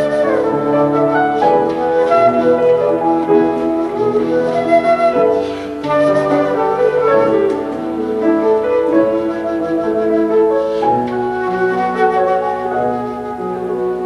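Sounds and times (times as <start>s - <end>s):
flute melody: 0.0s - 14.0s
piano accompaniment: 0.0s - 14.0s.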